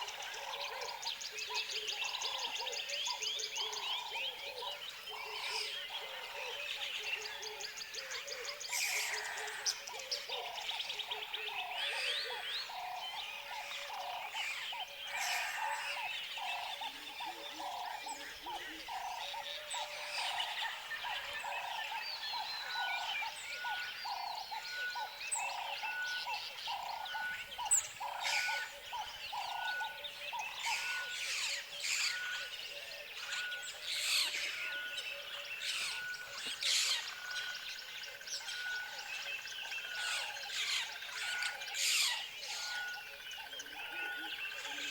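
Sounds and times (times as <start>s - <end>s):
birds chirping and calling: 0.0s - 44.9s.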